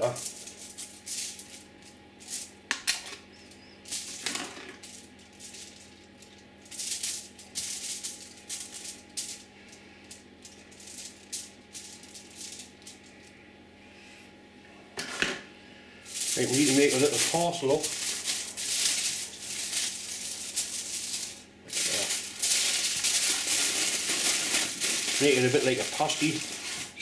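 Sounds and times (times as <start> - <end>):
aluminium foil crinkling: 0.0 - 13.2, 16.1 - 27.0.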